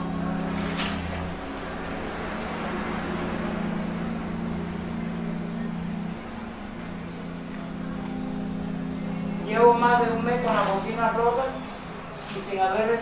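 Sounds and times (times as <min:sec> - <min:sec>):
low motor hum: 0:00.0 - 0:13.0
rushing background noise: 0:00.0 - 0:13.0.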